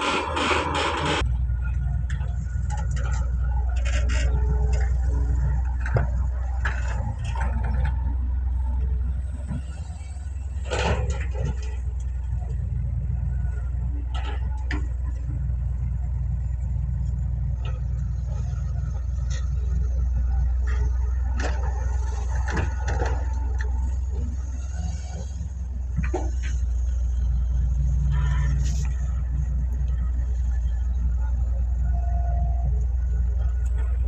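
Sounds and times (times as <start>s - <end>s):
excavator diesel engine rumbling: 0.0s - 34.0s.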